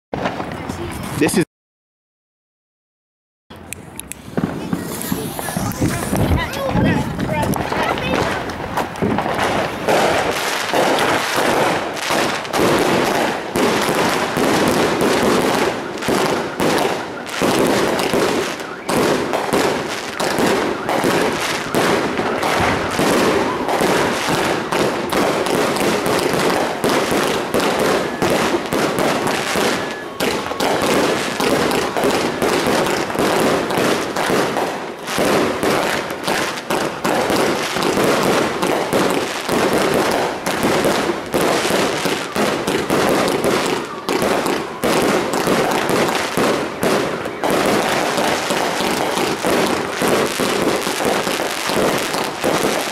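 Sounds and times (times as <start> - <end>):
firework barrage: 0.2 - 1.4, 4.1 - 52.9.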